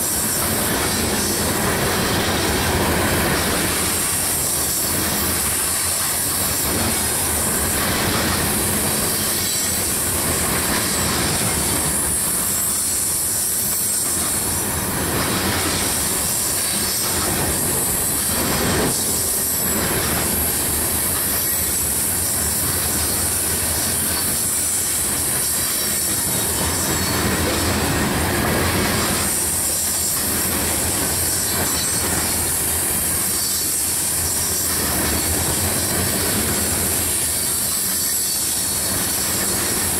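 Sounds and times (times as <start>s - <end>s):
rail clicks: 0.0s - 39.9s
train wheels squealing: 0.0s - 39.9s.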